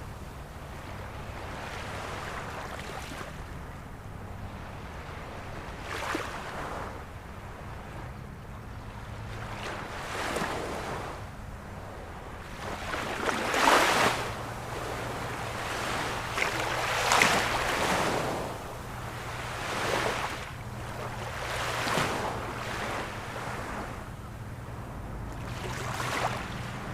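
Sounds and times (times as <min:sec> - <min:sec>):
ocean waves breaking: 0:00.0 - 0:26.9.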